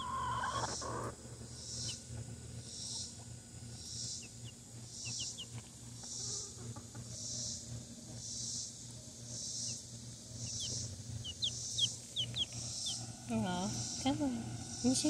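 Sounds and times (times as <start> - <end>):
chick peeping: 0.0 - 8.8, 9.4 - 15.0
insect chorus hissing: 0.0 - 15.0.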